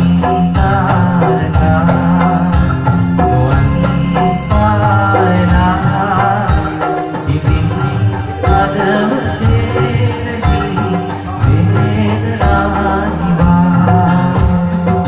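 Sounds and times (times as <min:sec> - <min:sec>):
band music with steady beat: 0:00.0 - 0:15.0.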